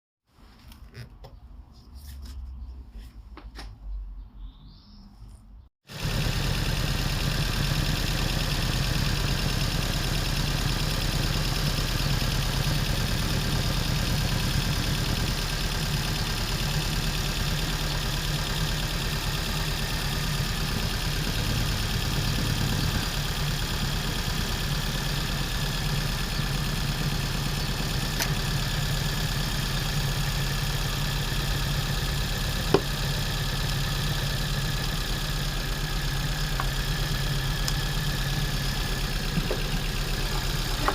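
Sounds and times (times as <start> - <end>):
car engine idling: 5.9 - 40.9.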